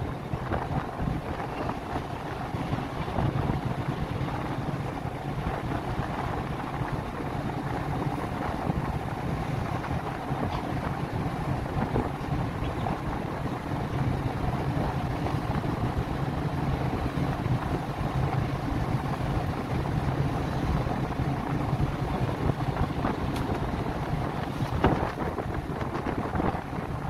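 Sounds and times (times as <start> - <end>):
ship engines rumbling: 0.0 - 27.0
wind buffeting microphone: 0.0 - 27.0.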